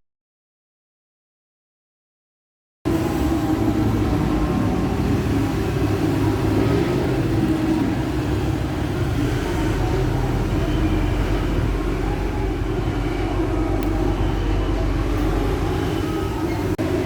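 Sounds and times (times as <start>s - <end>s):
vehicle engine rumbling: 2.9s - 17.0s.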